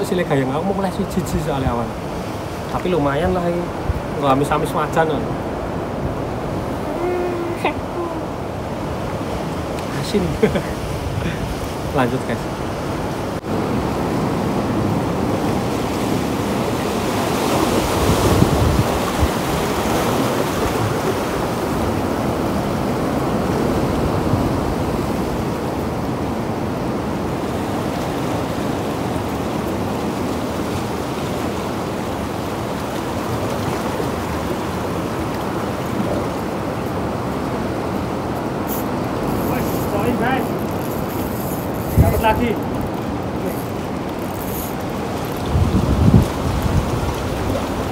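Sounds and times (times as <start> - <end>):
surf washing over rocks: 0.0 - 47.9
wind on microphone: 5.3 - 47.9.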